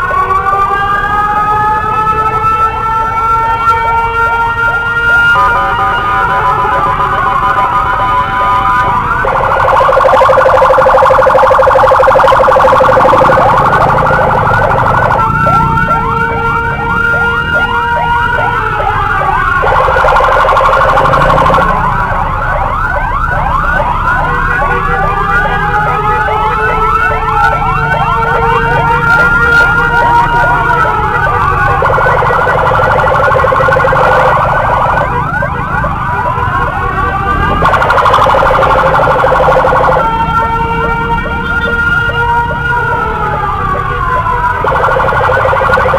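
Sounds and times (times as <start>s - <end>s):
motorcycle emergency siren: 0.0s - 45.9s
second siren: 0.0s - 45.9s.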